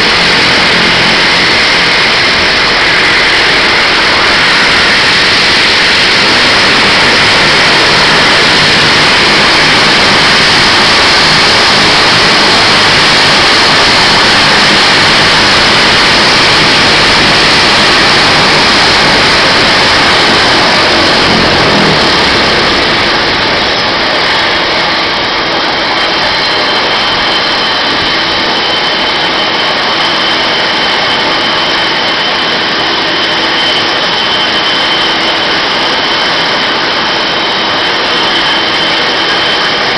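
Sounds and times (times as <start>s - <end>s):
turboprop engines whining: 0.0s - 39.9s.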